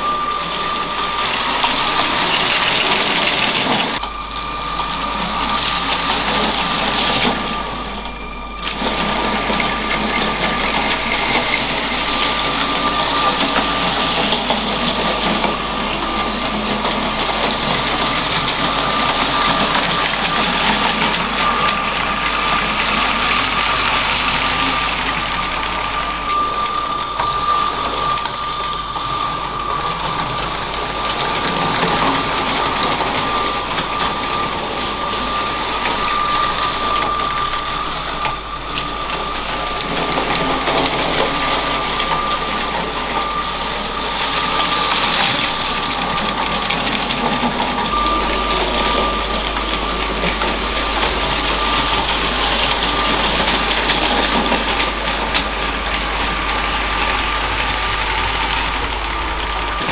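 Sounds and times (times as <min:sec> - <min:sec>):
small electric motor whine: 0:00.0 - 0:59.9
wheels rattling on plastic track: 0:00.0 - 0:59.9.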